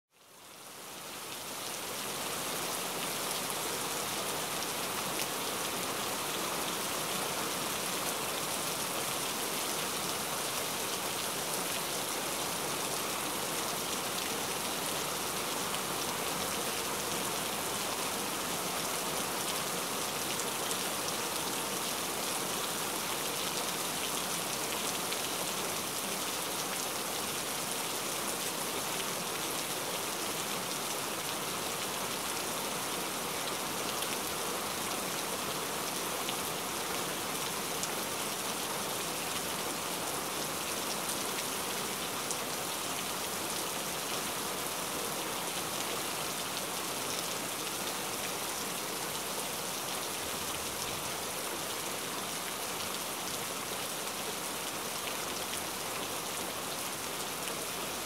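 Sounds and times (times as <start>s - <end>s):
rain-like hiss: 0.1s - 58.0s.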